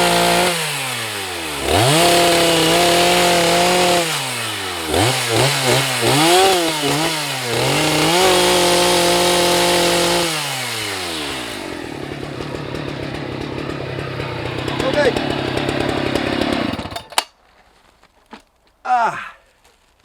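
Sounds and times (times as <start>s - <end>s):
chainsaw revving: 0.0s - 17.3s.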